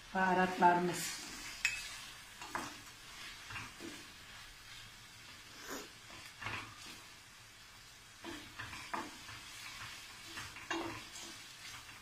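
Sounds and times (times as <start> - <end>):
onions sizzling: 0.0 - 12.0
wooden spoon scraping a pot: 1.0 - 7.1, 8.2 - 12.0.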